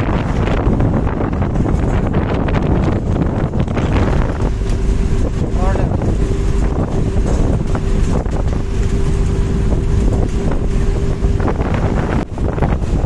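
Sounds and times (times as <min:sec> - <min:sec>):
bus and road rumble: 0:00.0 - 0:13.0
steady hum: 0:00.0 - 0:13.0
wind buffeting microphone: 0:00.0 - 0:13.0.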